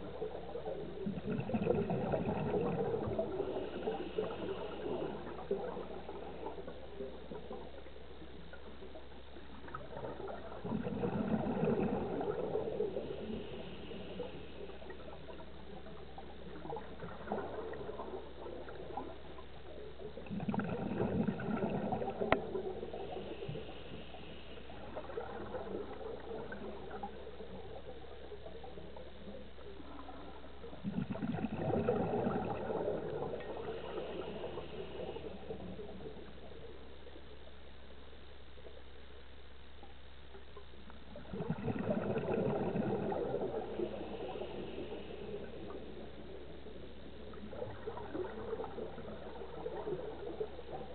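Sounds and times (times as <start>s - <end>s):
exhaled bubbles gurgling underwater: 0.0s - 50.9s.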